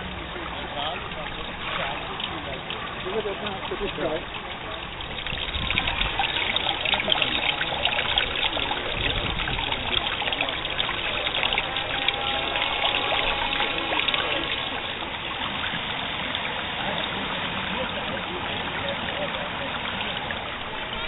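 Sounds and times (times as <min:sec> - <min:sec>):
pool water lapping: 0:00.0 - 0:21.0.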